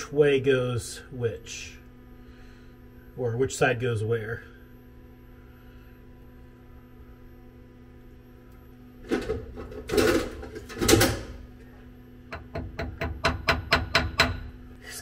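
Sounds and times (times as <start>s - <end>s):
machine shop hum: 0.0s - 15.0s.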